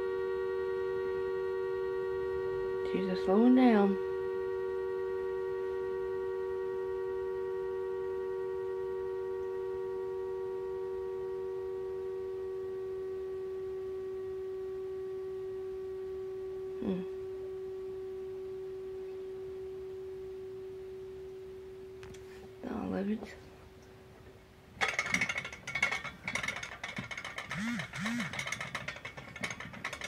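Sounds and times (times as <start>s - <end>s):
humming top: 0.0s - 30.0s.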